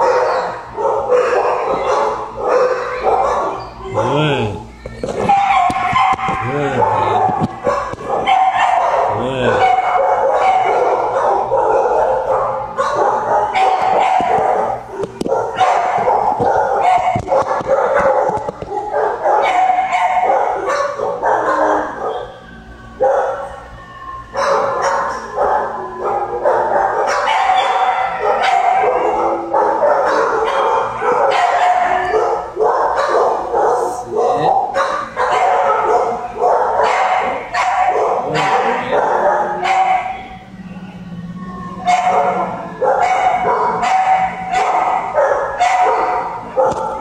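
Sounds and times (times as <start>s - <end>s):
many dogs barking: 0.0s - 23.7s, 24.3s - 41.0s, 41.7s - 47.0s.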